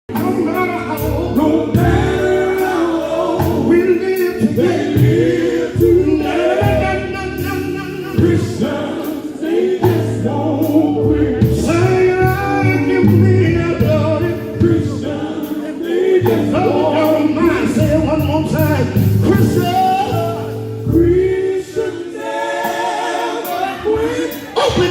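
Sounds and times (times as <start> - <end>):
gospel group singing: 0.1 - 24.9
instrumental backing with beat: 0.1 - 24.9.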